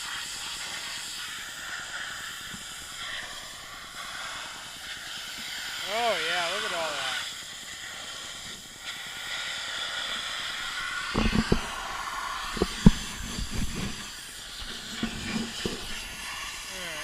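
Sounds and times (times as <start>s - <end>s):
pressure washer jet hissing: 0.0s - 17.0s.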